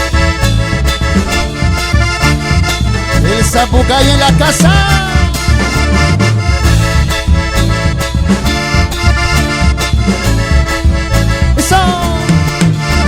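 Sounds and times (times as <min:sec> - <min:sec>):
accordion melody: 0:00.0 - 0:13.0
bass and guitar accompaniment: 0:00.0 - 0:13.0.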